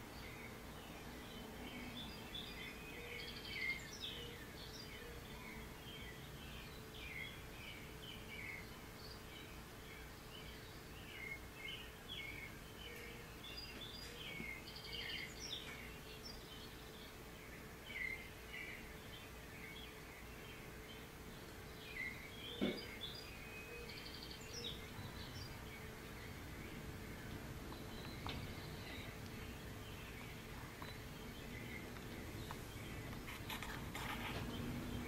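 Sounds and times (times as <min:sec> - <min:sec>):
birds chirping from tv speakers: 0:00.0 - 0:35.0
faint steady hum: 0:00.0 - 0:35.0.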